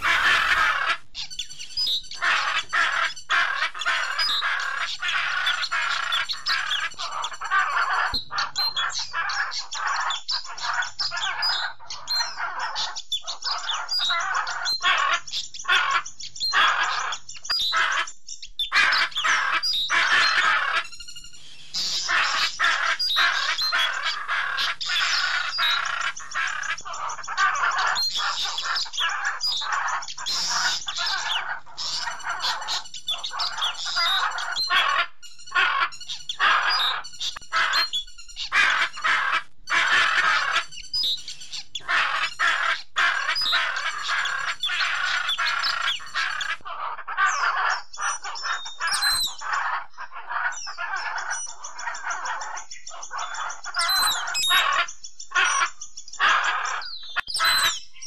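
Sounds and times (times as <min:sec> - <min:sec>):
parrots chattering and chirping: 0:00.0 - 0:58.0.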